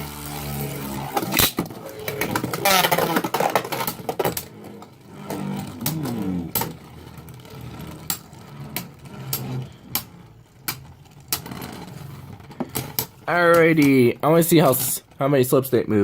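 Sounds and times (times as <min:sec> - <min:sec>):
spinning tops whirring: 0:00.0 - 0:15.7
spinning tops clacking: 0:00.3 - 0:15.1.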